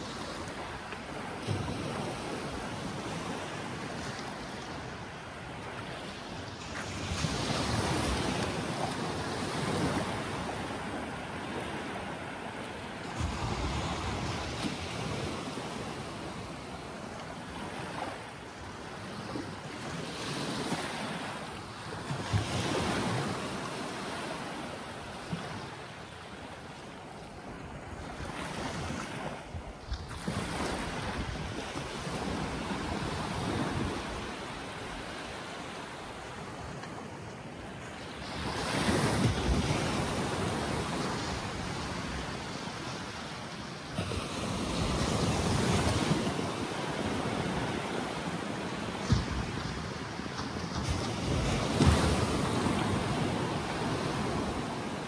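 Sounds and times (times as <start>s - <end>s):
small waves breaking on shore: 0.0s - 55.0s.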